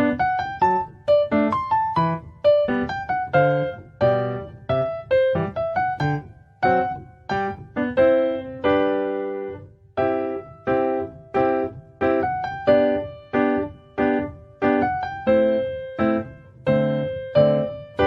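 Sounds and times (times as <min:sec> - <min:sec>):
light piano melody: 0:00.0 - 0:18.0.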